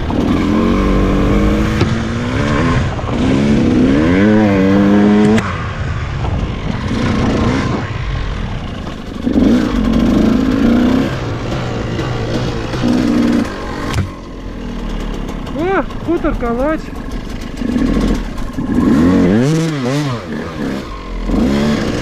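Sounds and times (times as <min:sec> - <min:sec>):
two-stroke motorcycle engine revving: 0:00.0 - 0:22.0.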